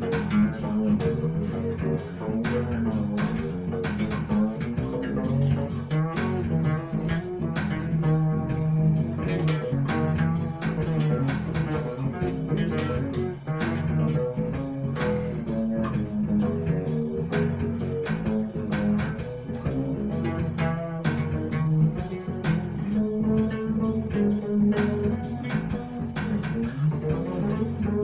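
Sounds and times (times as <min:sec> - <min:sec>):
drum loop: 0:00.0 - 0:28.0
fretless electric bass: 0:00.0 - 0:28.0.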